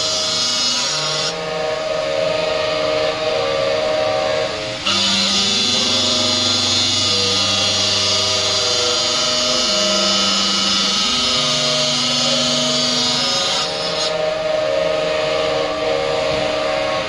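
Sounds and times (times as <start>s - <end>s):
saw blade cutting stone: 0.0s - 17.0s.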